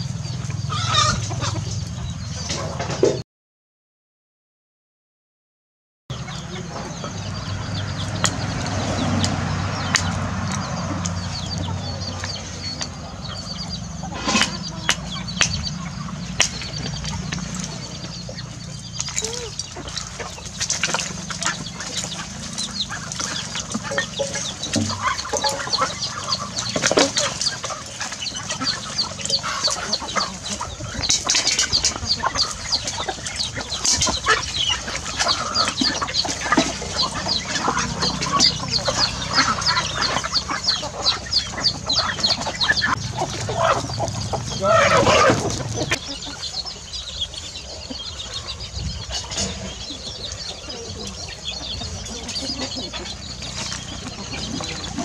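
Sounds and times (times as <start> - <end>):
chickens clucking: 0.0 - 3.2, 6.1 - 55.0.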